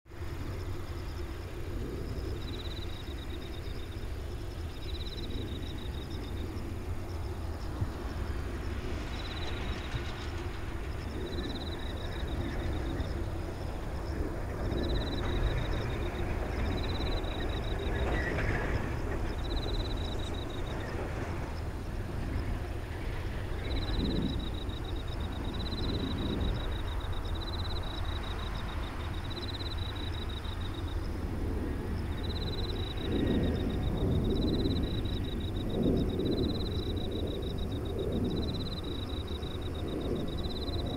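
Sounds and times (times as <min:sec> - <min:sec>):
distant jet engines roaring: 0:00.1 - 0:40.9.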